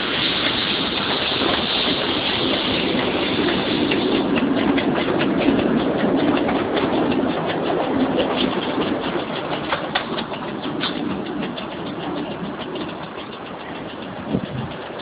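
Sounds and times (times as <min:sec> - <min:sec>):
locomotive engine running: 0:00.0 - 0:15.0
wheels clicking over rail joints: 0:00.0 - 0:15.0.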